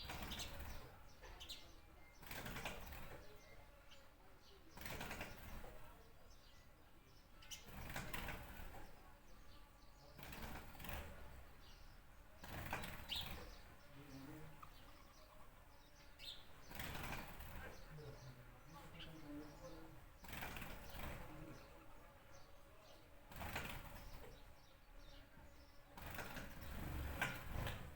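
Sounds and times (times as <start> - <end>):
birds chirping: 0.0 - 27.9.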